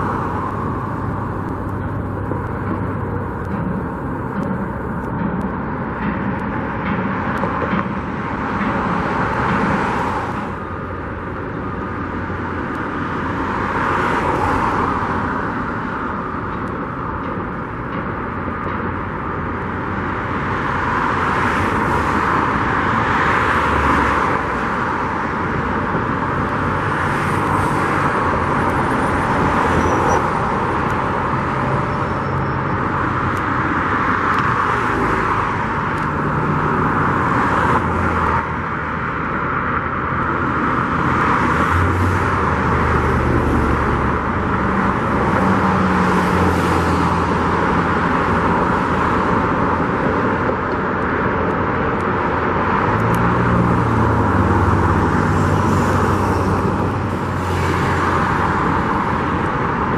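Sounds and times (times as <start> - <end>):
passing vehicle engines: 0.0 - 59.9
road traffic rushing: 0.0 - 59.9.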